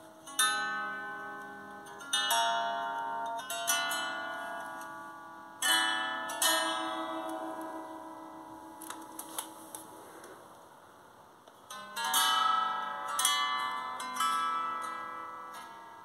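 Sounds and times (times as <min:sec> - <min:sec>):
soft ringing plucked notes: 0:00.0 - 0:09.6, 0:11.7 - 0:16.0.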